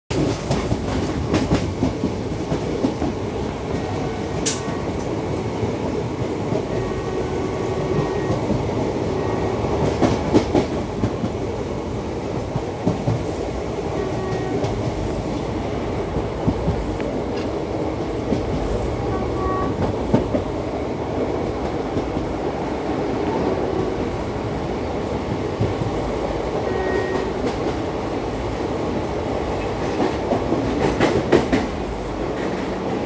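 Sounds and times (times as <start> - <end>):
train wheels rumbling on track: 0.1 - 33.0.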